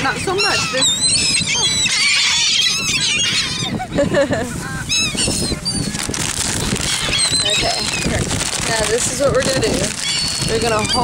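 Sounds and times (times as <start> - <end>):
birds squawking: 0.0 - 4.0, 4.6 - 11.0.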